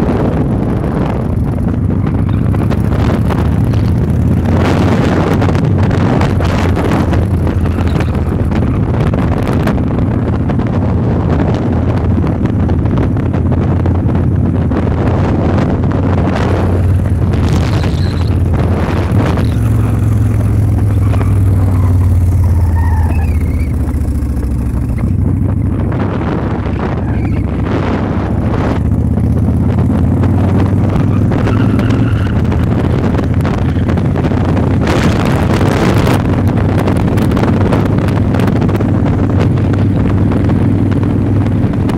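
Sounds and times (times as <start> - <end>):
motorcycle engine running: 0.0 - 41.9
wind buffeting on microphone: 0.0 - 41.9.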